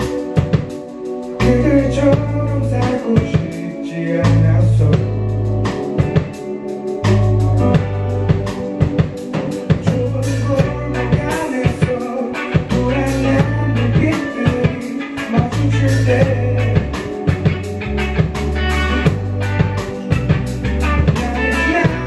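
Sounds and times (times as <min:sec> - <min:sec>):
drum kit hits: 0:00.0 - 0:00.8, 0:05.0 - 0:22.0
electric bass: 0:00.0 - 0:22.0
electric guitars: 0:00.0 - 0:22.0.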